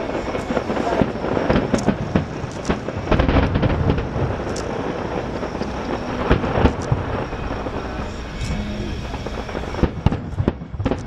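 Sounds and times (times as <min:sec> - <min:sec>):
continuous firework crackle: 0:00.0 - 0:11.0
firework shells booming: 0:00.0 - 0:11.0
sharp firework bangs: 0:00.0 - 0:11.0.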